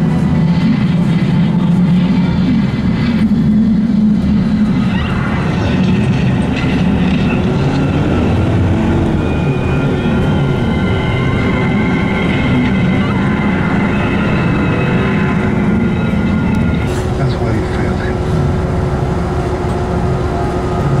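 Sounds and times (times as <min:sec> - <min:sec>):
vehicle rumbling from inside cabin: 0:00.0 - 0:21.0.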